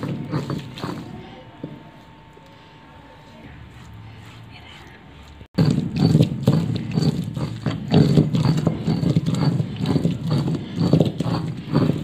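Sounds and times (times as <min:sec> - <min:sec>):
stone roller grinding paste: 0:00.0 - 0:02.0, 0:03.3 - 0:12.0.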